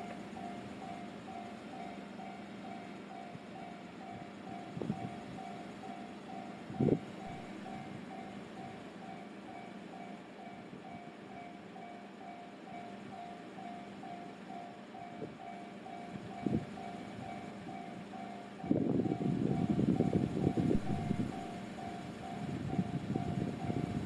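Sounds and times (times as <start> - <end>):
level-crossing warning bell: 0.0 - 24.0.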